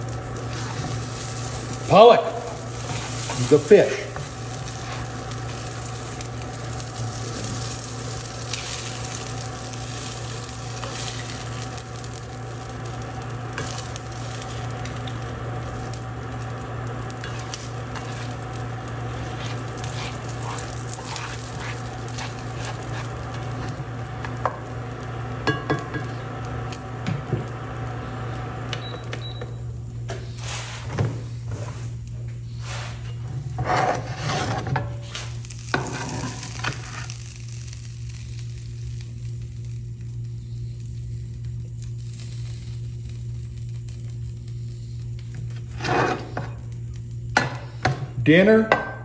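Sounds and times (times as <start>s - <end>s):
butter and oil sizzling in skillet: 0.0s - 49.0s.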